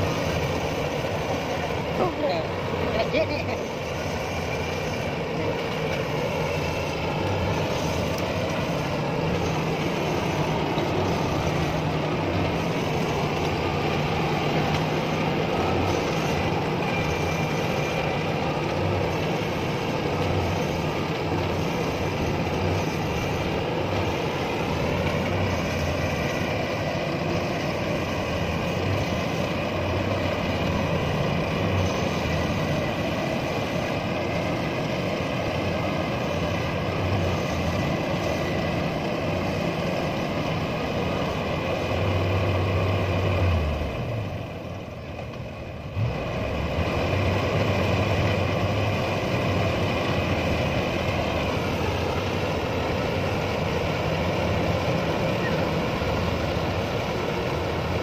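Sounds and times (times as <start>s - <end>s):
harvester engine under load: 0.0s - 58.0s
high-pitched whine: 0.0s - 58.0s.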